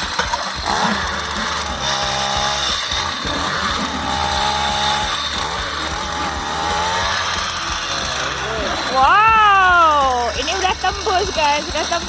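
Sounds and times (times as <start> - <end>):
ice auger motor: 0.0 - 12.0.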